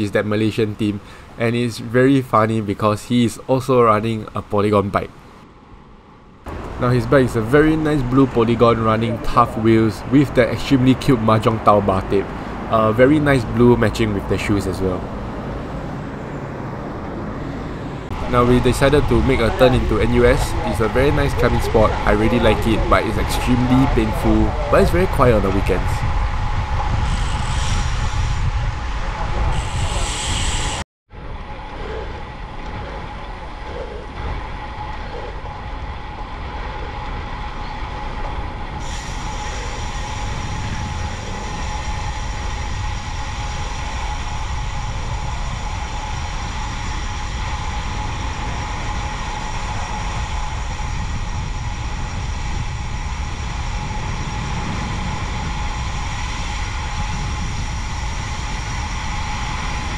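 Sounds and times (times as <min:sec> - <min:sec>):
wind buffeting microphone: 0:05.1 - 0:59.9
bike tyre road noise: 0:06.3 - 0:59.9.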